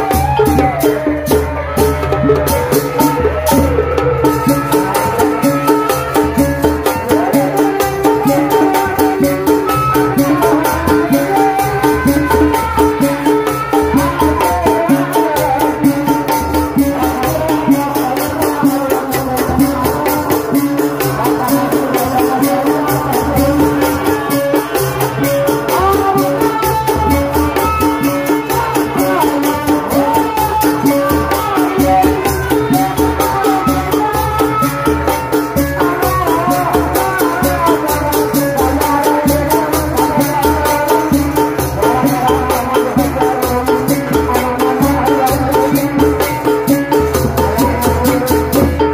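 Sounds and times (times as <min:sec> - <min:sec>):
fast steady drum beat: 0:00.0 - 0:48.9
wavering melody: 0:00.0 - 0:48.9.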